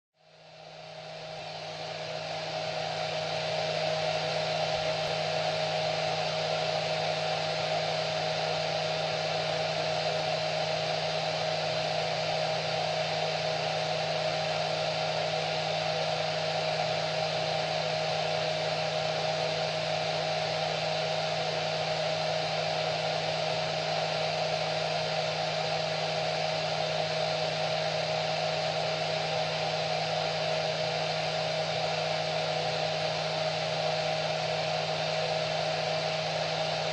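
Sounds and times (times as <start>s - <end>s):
hair dryer running: 0.8s - 36.9s.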